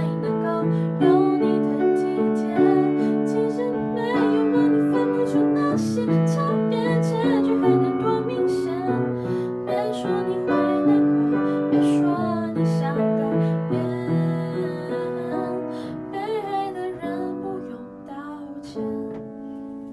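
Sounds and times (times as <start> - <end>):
slow piano ballad: 0.0 - 19.9.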